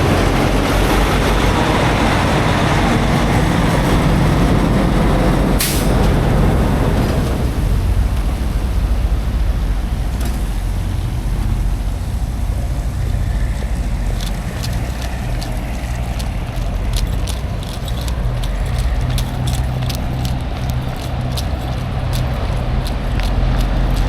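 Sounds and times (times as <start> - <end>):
truck engine drone: 0.0 - 24.0.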